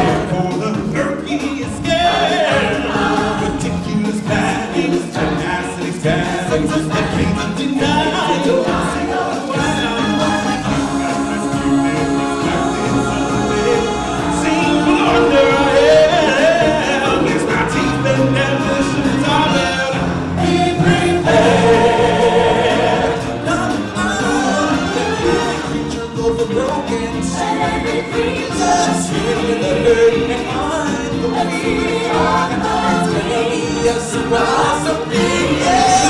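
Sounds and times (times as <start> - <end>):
choir singing: 0.0 - 36.0
instrumental backing music: 0.0 - 36.0.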